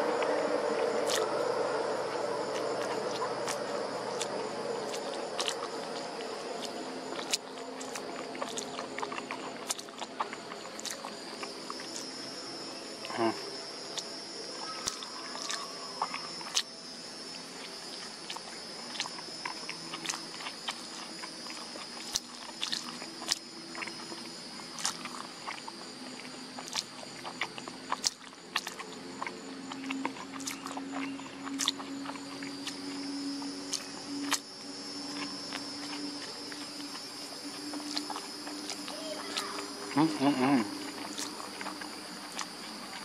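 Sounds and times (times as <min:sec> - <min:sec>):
high-pitched insect chirring: 0:00.0 - 0:43.0
low steady hum: 0:00.0 - 0:43.0.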